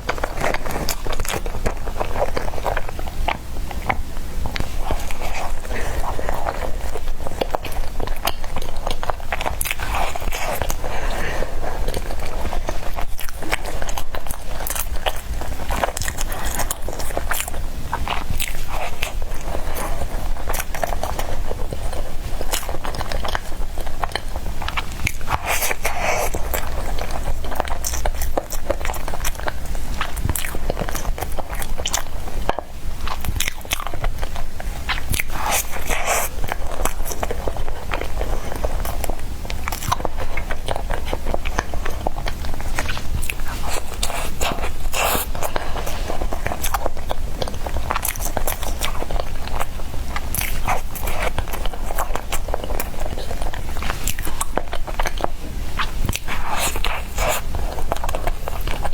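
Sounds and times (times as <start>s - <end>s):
chewing soft bread: 0.0s - 58.9s.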